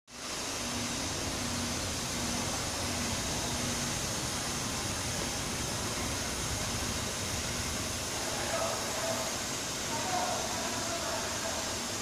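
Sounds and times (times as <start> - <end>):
foam cutting machine hiss: 0.1 - 12.0.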